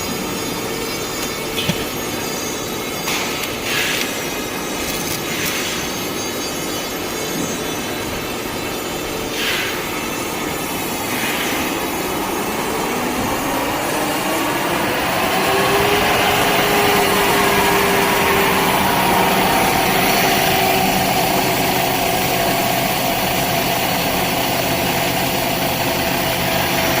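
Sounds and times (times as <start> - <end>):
machine whirring and whining: 0.0 - 27.0.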